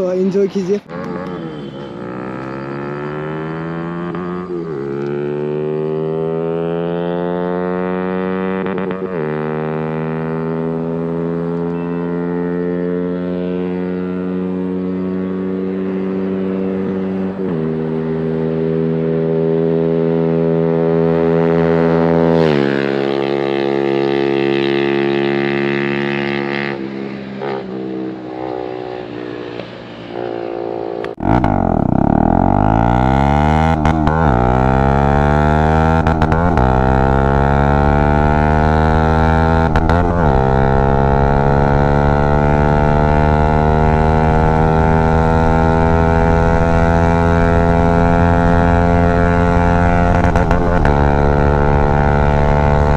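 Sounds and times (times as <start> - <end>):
motorcycle open exhaust note: 0.8 - 52.9.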